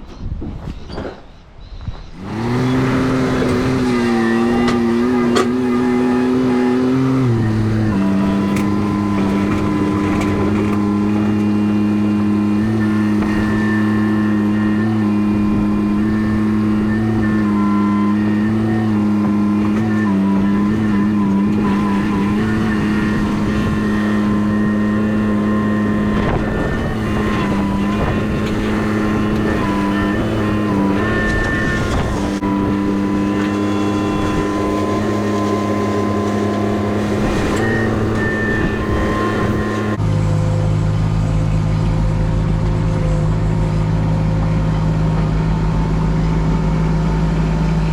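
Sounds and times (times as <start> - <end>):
high whine: 1.8 - 47.9
excavator diesel engine running: 2.0 - 47.9.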